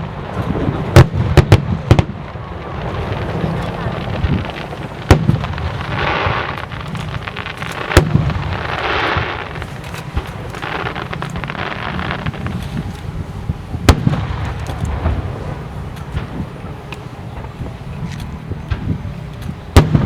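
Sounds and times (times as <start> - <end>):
firework booms: 0.0 - 20.0
firework crackling and fizzing: 0.0 - 20.0.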